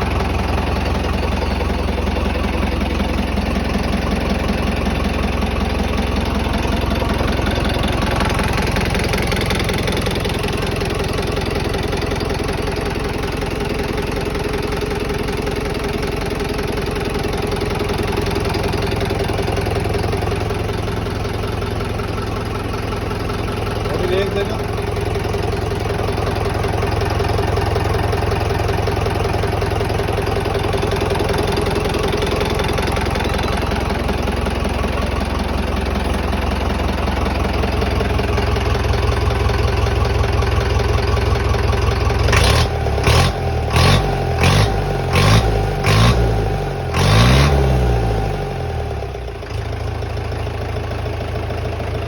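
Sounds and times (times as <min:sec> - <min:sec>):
diesel engine idling and revving: 0:00.0 - 0:52.0.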